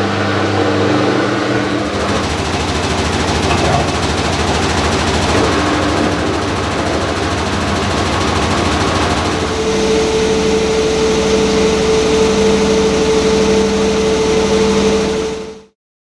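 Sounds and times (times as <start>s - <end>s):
washing machine spinning: 0.0s - 15.7s.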